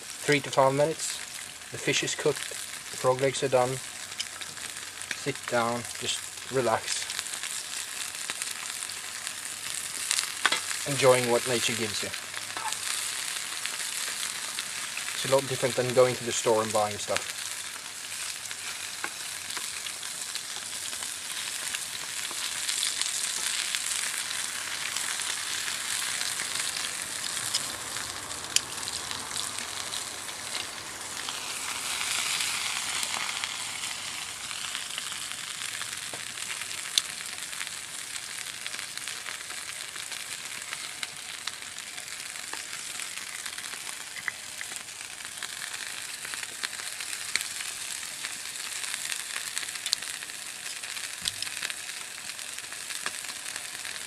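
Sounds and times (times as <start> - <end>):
food sizzling in skillet: 0.0 - 54.0.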